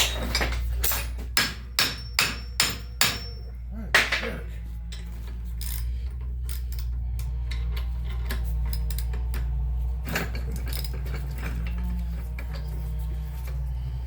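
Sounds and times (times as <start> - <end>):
metal tools clinking and knocking: 0.0 - 14.0
steady low hum: 0.0 - 14.0.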